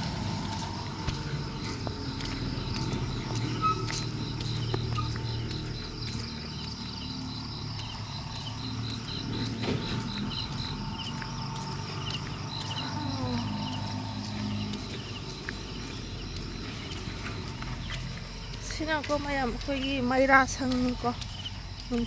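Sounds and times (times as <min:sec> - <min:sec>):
insects chirping: 0:00.0 - 0:22.0
lorry engine humming: 0:00.0 - 0:22.0.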